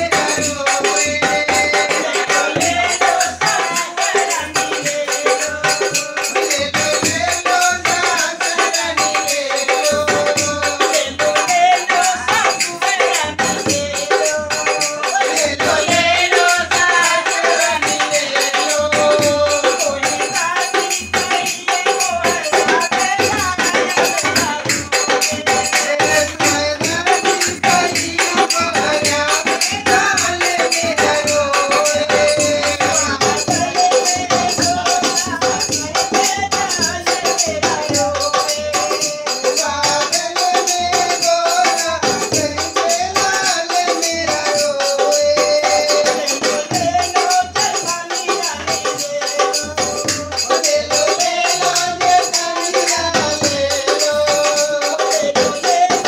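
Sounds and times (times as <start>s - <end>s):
dholak drum rhythm: 0.0s - 56.0s.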